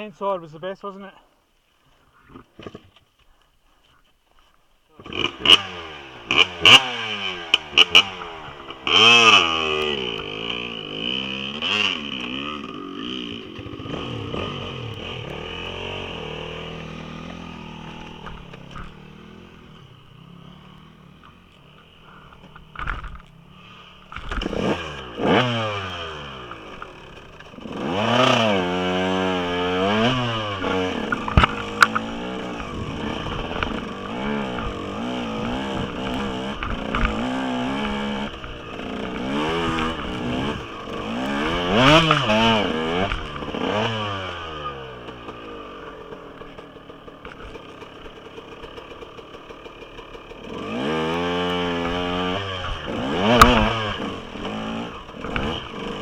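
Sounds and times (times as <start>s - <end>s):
dirt bike engine revving: 4.9s - 56.0s.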